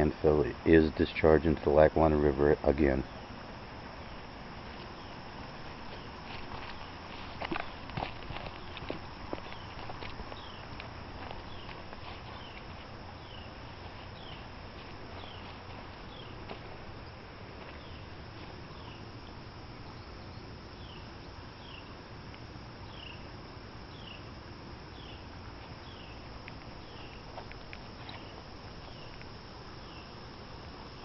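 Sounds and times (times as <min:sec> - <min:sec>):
creek water flowing: 0:00.0 - 0:19.8, 0:21.4 - 0:31.0.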